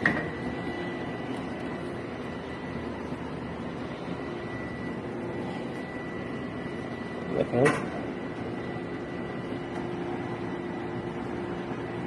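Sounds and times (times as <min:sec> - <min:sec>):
espresso machine humming: 0:00.0 - 0:12.0.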